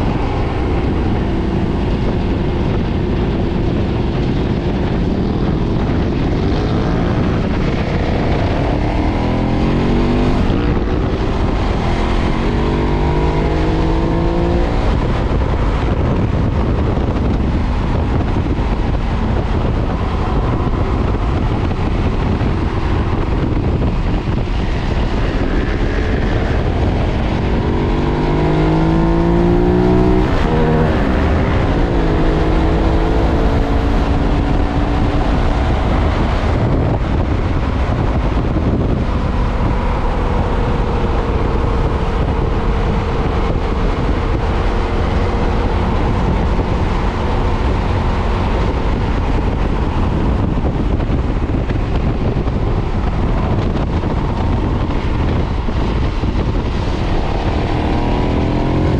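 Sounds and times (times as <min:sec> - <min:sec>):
motorcycle engine accelerating: 0:00.0 - 0:58.9
wind on microphone: 0:00.0 - 0:58.9.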